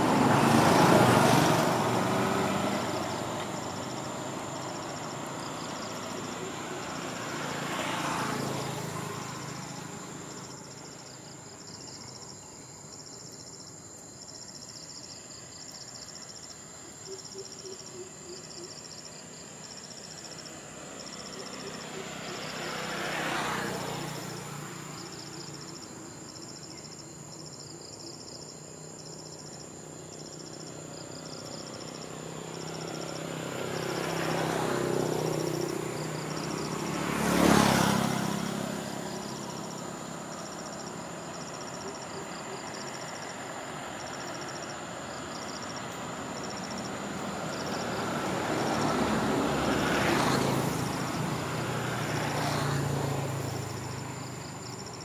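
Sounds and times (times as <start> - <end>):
insects chirping: 0.0 - 55.0
vehicles passing by: 0.0 - 55.0.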